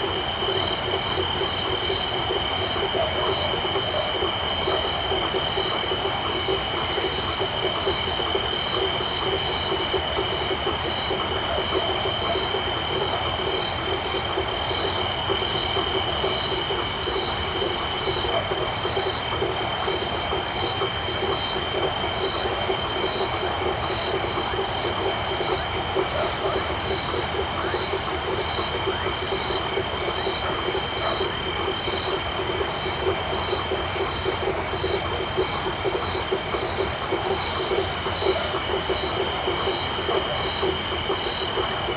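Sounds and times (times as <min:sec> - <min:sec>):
frogs calling: 0:00.0 - 0:41.9.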